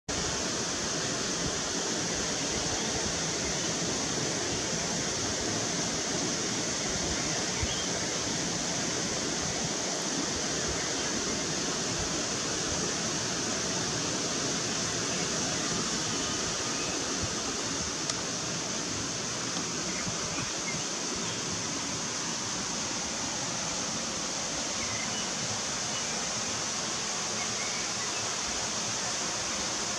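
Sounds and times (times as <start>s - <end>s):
outdoor background hiss: 0.1s - 29.9s.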